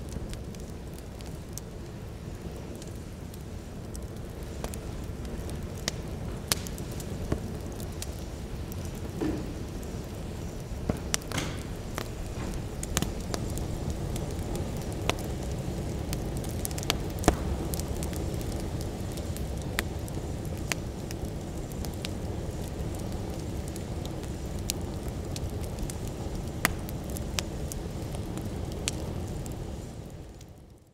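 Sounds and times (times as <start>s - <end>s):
sharp crackles and clicks: 2.7s - 29.6s.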